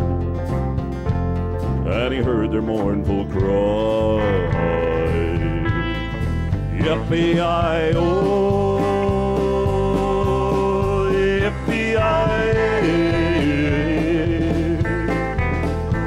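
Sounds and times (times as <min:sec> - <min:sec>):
acoustic guitar: 0:00.0 - 0:16.0
drums steady beat: 0:00.0 - 0:16.0
keyboards: 0:00.0 - 0:16.0
man singing long notes: 0:01.9 - 0:15.1.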